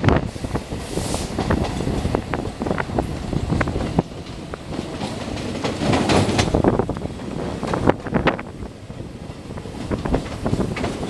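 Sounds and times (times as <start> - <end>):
train wheels clattering over track: 0.0 - 11.0.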